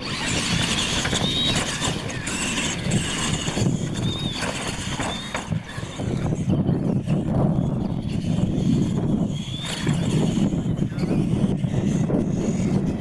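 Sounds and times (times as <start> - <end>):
small motors whining: 0.0 - 13.0.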